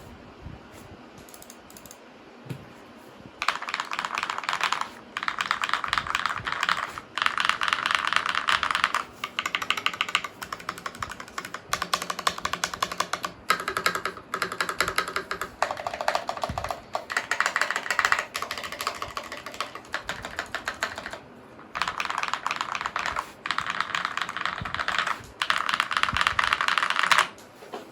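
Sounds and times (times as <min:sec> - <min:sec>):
fast typing on mechanical keyboard: 0:03.4 - 0:27.4.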